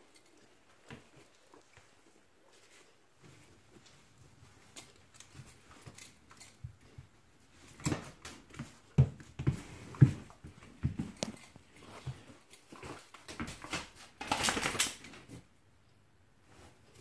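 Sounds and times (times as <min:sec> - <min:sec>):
dogs scuffling: 0:00.0 - 0:15.5.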